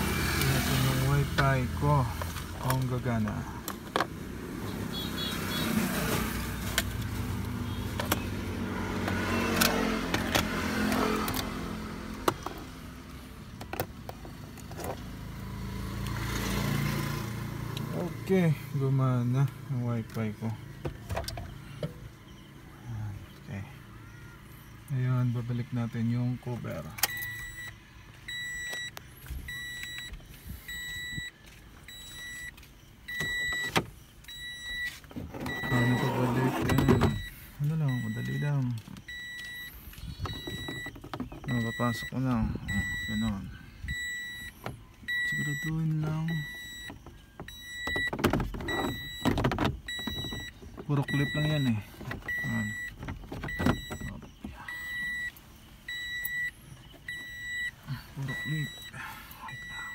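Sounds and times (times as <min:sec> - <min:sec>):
car warning chime beeping: 0:00.0 - 0:03.6, 0:04.9 - 0:13.8, 0:17.8 - 0:59.9.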